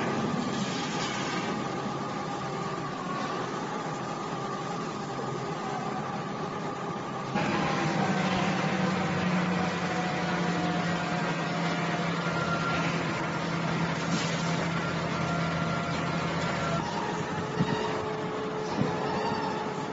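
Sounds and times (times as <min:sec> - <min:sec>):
crane engine humming: 0:00.0 - 0:19.9.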